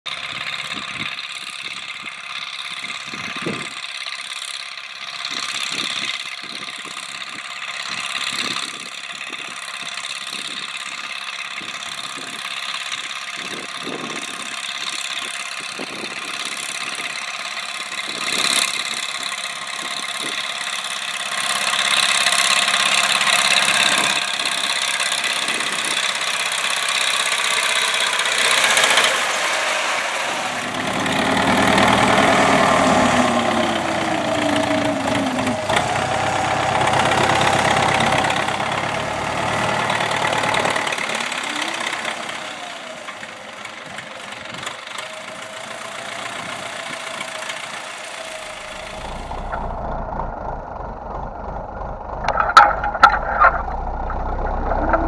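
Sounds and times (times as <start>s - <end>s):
tractor diesel engine running: 0.1s - 55.0s.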